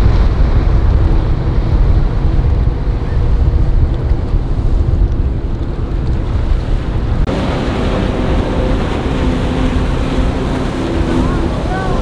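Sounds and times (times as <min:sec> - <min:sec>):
breaking surf: 0:00.0 - 0:12.0
motorboat engine running: 0:00.0 - 0:12.0
wind buffeting microphone: 0:00.0 - 0:12.0.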